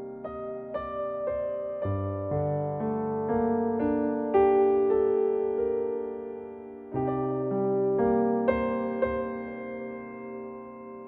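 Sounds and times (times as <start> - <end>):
soft electric piano music: 0.0 - 11.0.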